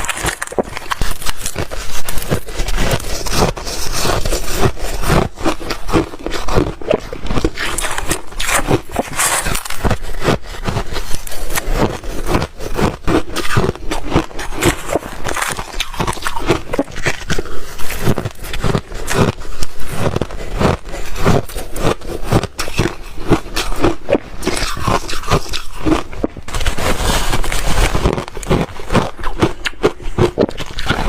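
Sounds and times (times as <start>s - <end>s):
ice being chewed: 0.0s - 31.0s.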